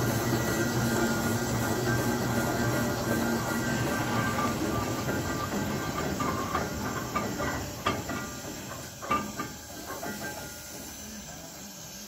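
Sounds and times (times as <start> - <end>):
steam hissing: 0.0 - 12.0
sharp metallic clanks: 0.4 - 11.1.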